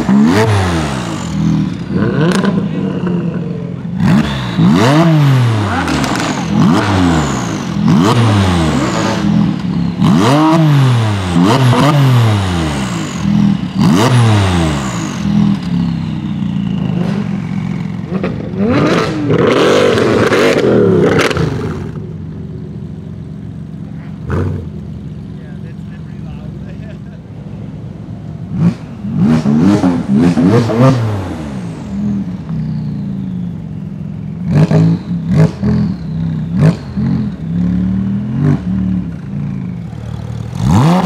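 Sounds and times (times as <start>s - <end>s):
car engine idling: 0.0s - 41.0s
car engine revving: 0.0s - 41.0s.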